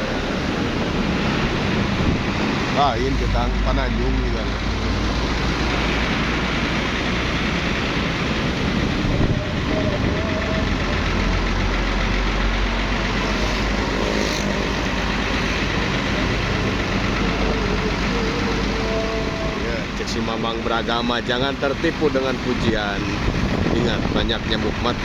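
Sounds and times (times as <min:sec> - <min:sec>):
road noise: 0:00.0 - 0:25.0
vehicle engines rumbling: 0:00.0 - 0:25.0.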